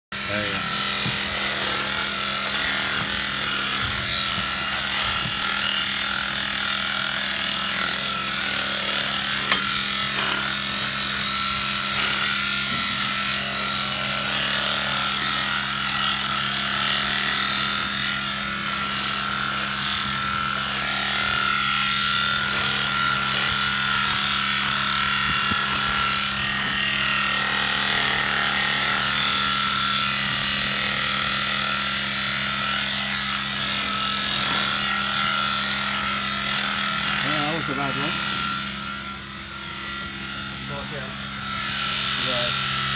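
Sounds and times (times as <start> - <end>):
electric clipper humming: 0.1 - 42.9.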